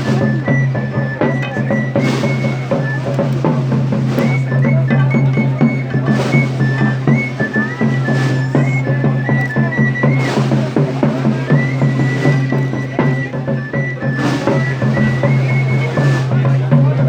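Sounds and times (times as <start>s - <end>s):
drum strikes: 0.0s - 17.0s
whistle-like melody: 0.0s - 17.0s.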